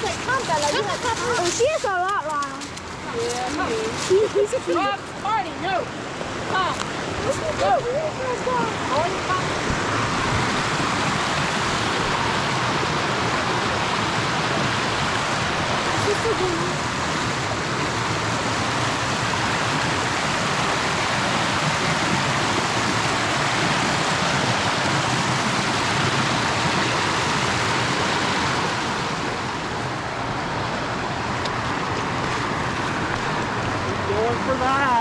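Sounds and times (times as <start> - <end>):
creek water rushing over rocks: 0.0 - 35.0.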